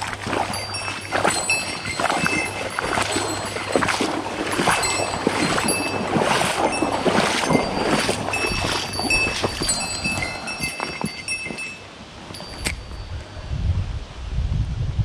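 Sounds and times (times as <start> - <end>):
river water splashing and gurgling: 0.0 - 13.3.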